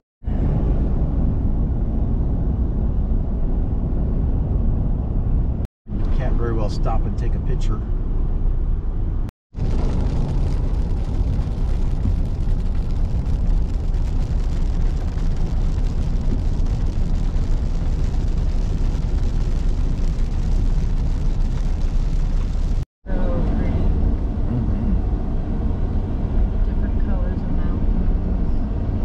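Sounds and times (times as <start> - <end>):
car road and wind noise: 0.2 - 29.0.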